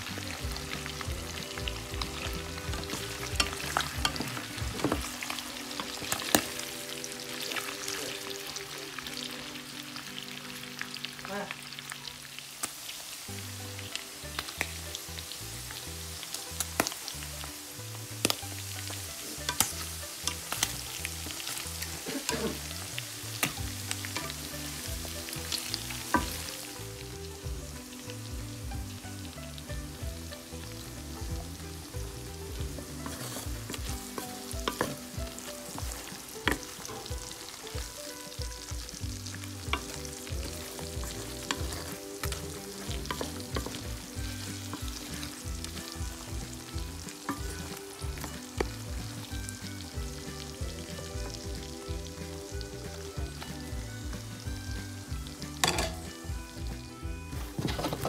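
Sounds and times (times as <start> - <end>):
utensil stirring in a pan: 0.0 - 9.7, 12.6 - 56.7
food sizzling and popping in butter: 0.0 - 58.0.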